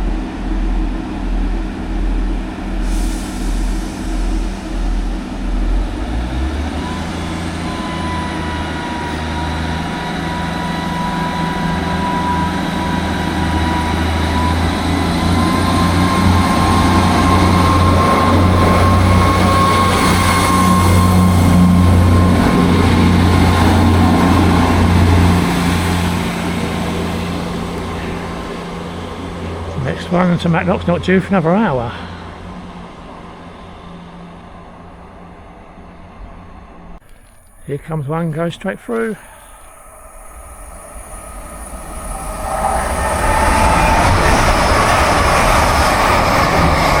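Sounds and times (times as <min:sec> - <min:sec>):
diesel train engine drone: 0:00.0 - 0:47.0.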